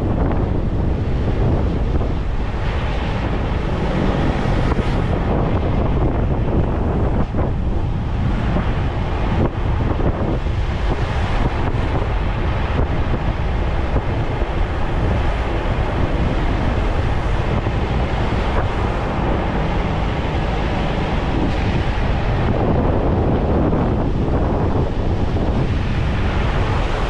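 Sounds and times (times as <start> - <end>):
road noise: 0.0 - 27.0
wind rushing over microphone: 0.0 - 27.0.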